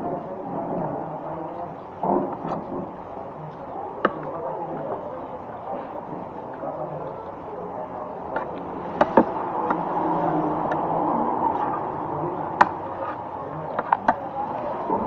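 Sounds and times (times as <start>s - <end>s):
busy eatery hum: 0.0s - 15.0s.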